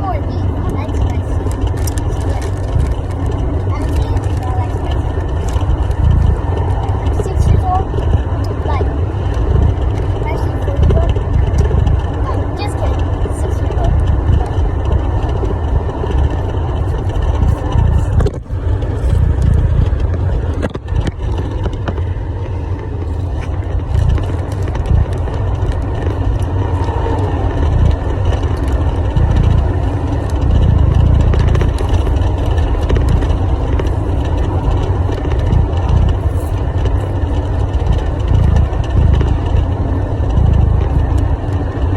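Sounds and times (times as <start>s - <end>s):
loud low rumble: 0.0s - 41.9s.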